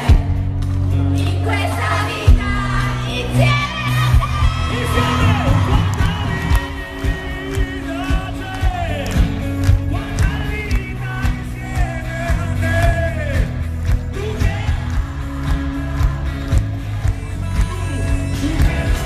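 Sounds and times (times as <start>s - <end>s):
pop-rock band playing: 0.0s - 19.0s
person singing: 1.3s - 19.0s.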